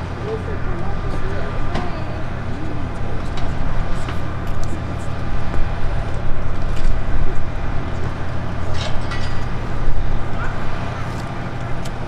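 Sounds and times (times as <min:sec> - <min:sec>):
distant aircraft engine drone: 0:00.0 - 0:12.0.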